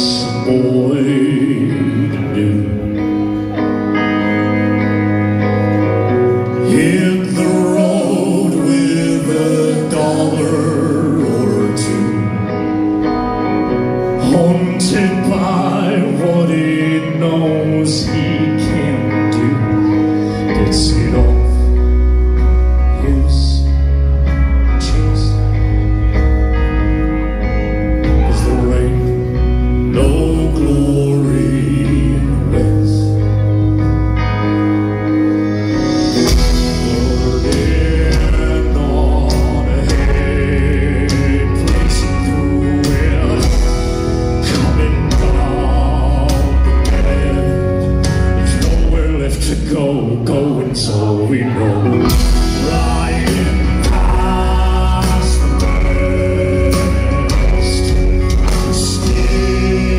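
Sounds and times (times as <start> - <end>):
heavy low bass: 0.0 - 59.9
live country band: 0.0 - 59.9.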